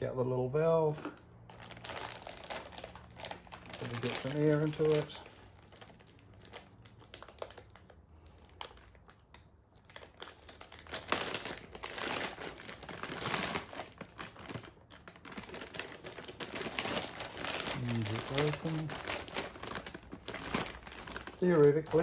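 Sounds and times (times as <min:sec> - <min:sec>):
plastic film crinkling: 0:01.0 - 0:22.0.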